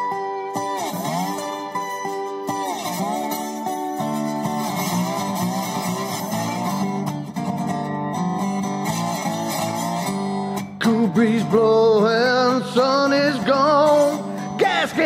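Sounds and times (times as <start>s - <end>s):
bending guitar melody: 0.0s - 15.0s
strummed guitar: 0.0s - 15.0s.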